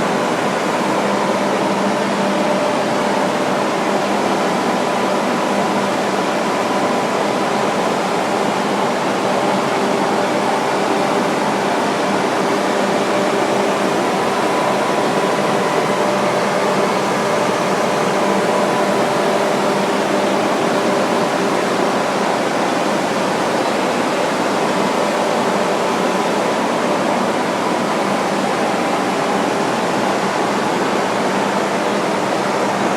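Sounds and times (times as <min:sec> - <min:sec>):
fans humming: 0:00.0 - 0:32.9.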